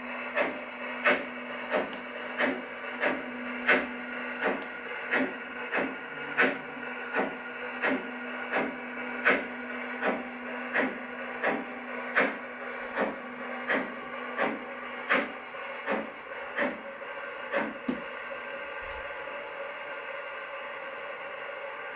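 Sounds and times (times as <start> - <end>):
model steam locomotive chuffing: 0.0 - 21.9
steady hum: 0.0 - 21.9.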